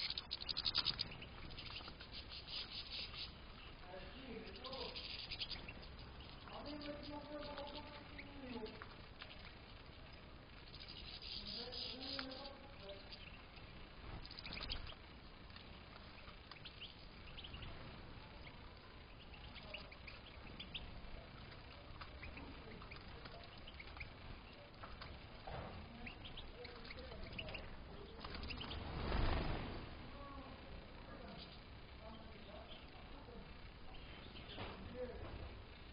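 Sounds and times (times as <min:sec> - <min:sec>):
finches chirping and twittering: 0:00.0 - 0:29.6, 0:31.2 - 0:34.9.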